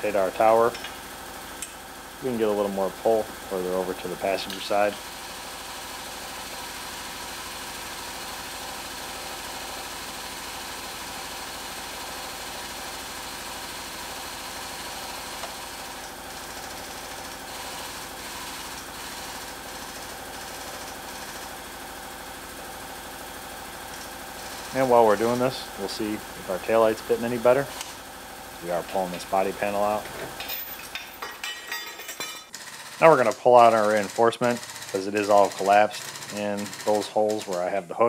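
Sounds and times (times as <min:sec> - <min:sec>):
hydraulic pump humming: 0:00.0 - 0:38.0.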